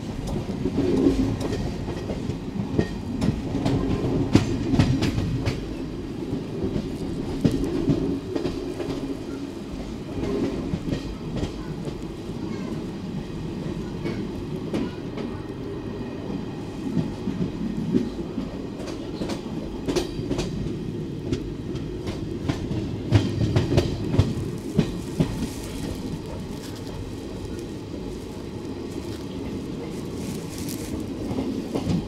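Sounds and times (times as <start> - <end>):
train wheels rumbling on rails: 0.0 - 32.0
wheels clickety-clack on track: 0.0 - 32.0.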